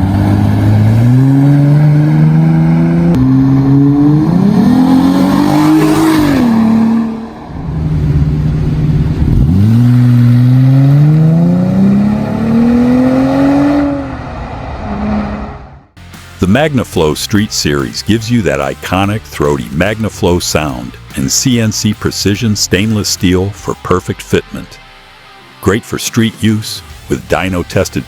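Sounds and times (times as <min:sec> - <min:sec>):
car engine revving: 0:00.0 - 0:25.4.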